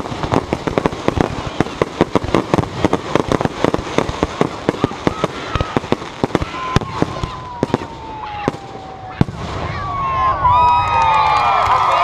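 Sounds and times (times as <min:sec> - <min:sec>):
fireworks bangs: 0:00.0 - 0:11.8
fireworks crackling: 0:00.0 - 0:12.0.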